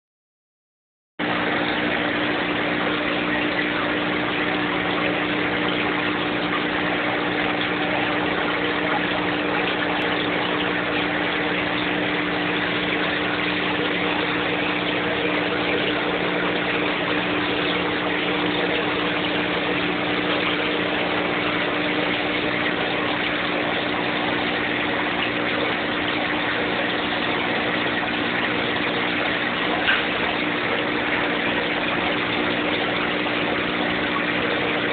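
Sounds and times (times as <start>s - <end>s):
aquarium pump humming: 1.2s - 34.9s.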